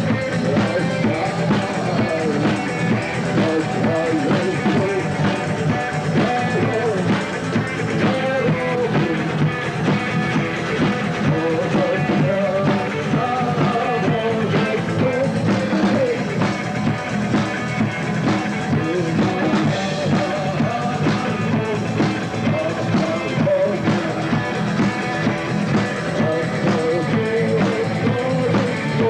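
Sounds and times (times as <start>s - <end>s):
person singing: 0.0s - 17.0s, 17.9s - 29.0s
rock band playing live: 0.0s - 29.0s.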